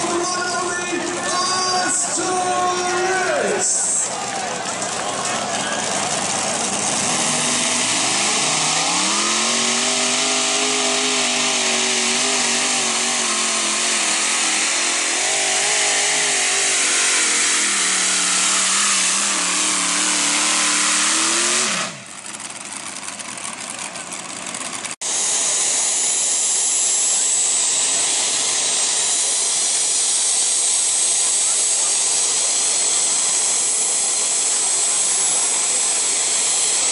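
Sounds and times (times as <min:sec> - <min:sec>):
tractor engine at full throttle: 0:00.0 - 0:36.9
turbine whine and rush: 0:05.6 - 0:23.8, 0:24.4 - 0:36.9.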